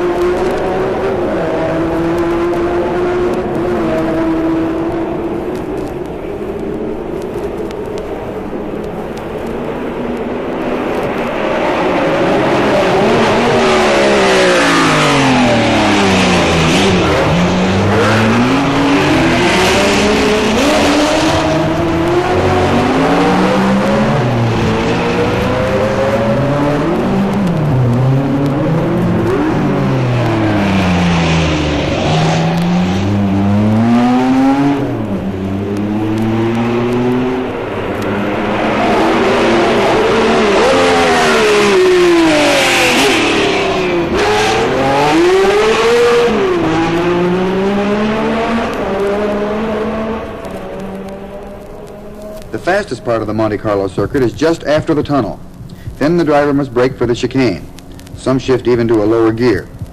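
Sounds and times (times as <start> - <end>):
racing cars passing: 0.0 - 59.7.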